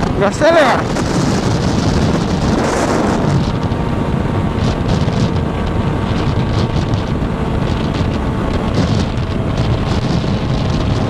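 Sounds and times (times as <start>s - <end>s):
motorcycle engine accelerating: 0.0s - 11.0s
wind noise on microphone: 0.0s - 11.0s.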